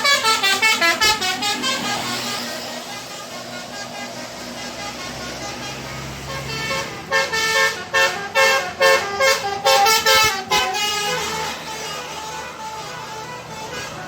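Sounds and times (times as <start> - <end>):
multi-tone bus horn tooting: 0.0 - 14.0
traffic and engine noise: 0.0 - 14.0.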